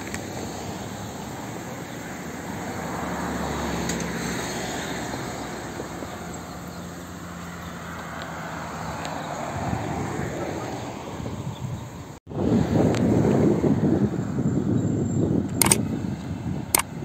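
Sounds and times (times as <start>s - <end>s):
vehicle passing by: 0.0s - 14.5s
road traffic passing: 0.0s - 17.0s.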